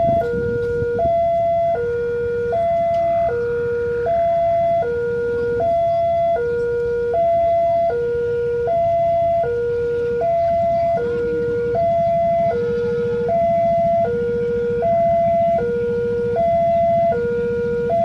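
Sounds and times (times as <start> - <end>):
level crossing two-tone alarm: 0.0 - 18.0.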